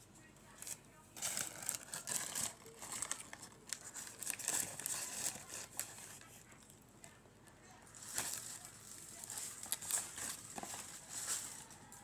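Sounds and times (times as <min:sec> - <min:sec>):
plastic packaging crinkling: 0:00.5 - 0:06.6, 0:07.9 - 0:12.0.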